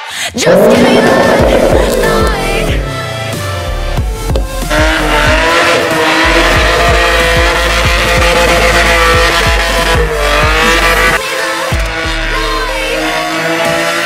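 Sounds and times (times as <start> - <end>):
tires spinning in burnout: 0.3 - 14.0
car engine at high revs: 0.4 - 14.0
music with steady beat: 1.2 - 13.8.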